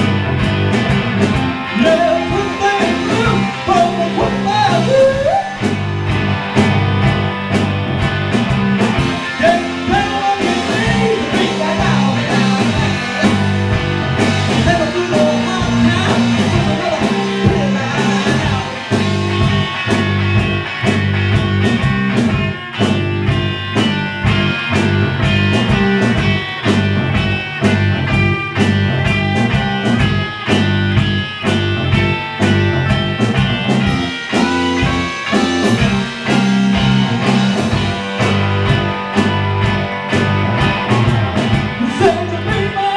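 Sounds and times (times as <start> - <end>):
drum beat: 0.0 - 42.7
electric guitars: 0.0 - 42.9.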